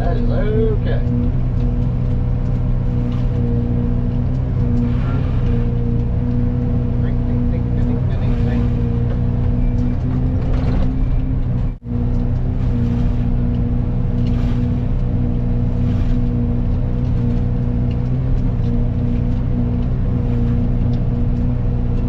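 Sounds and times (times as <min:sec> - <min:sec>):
excavator engine and hydraulics droning: 0:00.0 - 0:22.0.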